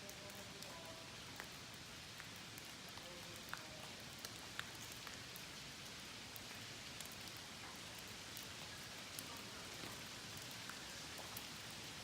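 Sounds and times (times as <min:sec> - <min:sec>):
water dripping in a cave: 0:00.0 - 0:12.0.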